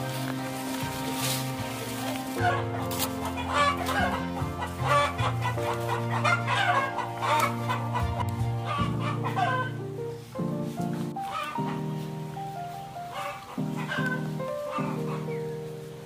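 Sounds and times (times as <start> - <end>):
background music of held chords: 0.0 - 16.0
chickens clucking: 0.0 - 16.0.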